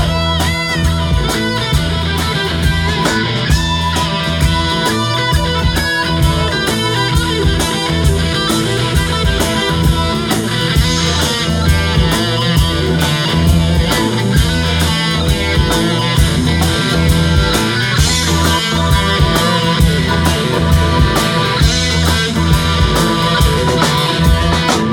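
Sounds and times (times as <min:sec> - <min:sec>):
drum kit keeping a beat: 0:00.0 - 0:24.9
electric guitar: 0:00.0 - 0:24.9.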